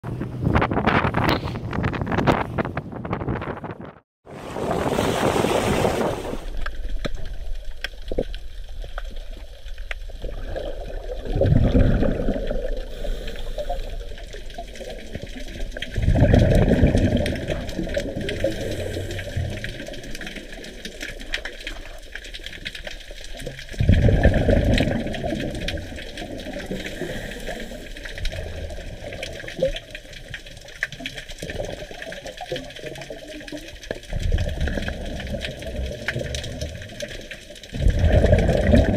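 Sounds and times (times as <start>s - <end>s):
scuba regulator bubbles gurgling: 5.9s - 38.9s
fine underwater crackle of clicks: 6.4s - 38.9s.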